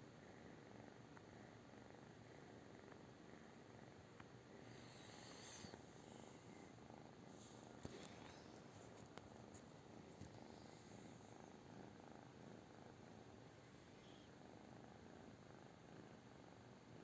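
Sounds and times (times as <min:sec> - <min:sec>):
cat purring: 0:00.1 - 0:16.8.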